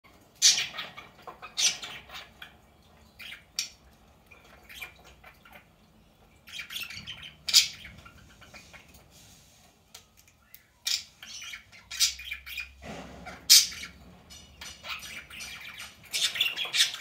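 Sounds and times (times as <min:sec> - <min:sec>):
budgerigars chirping and squawking: 0:00.3 - 0:09.6, 0:10.4 - 0:17.0.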